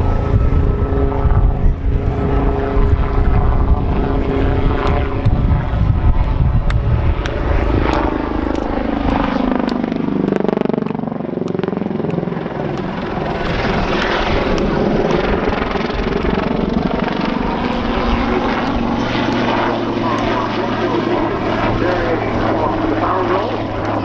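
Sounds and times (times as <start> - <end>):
helicopter engines droning: 0.0 - 24.0
helicopter rotor beating: 0.0 - 24.0.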